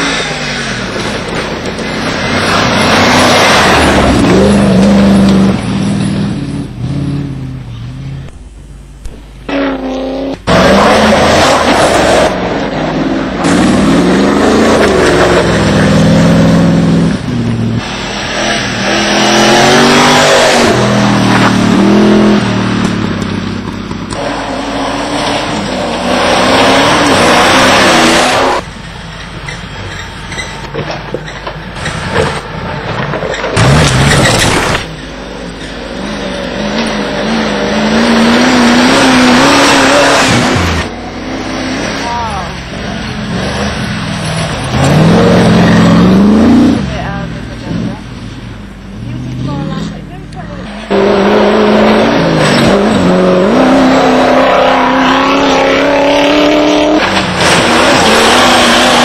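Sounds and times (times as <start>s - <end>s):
off-road vehicle engine revving: 0.0s - 8.4s, 9.4s - 28.7s, 31.7s - 59.0s.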